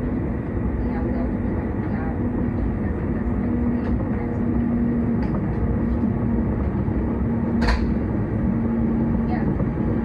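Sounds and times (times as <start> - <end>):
low traction hum: 0.0 - 10.0
train wheels rumbling on track: 0.0 - 10.0.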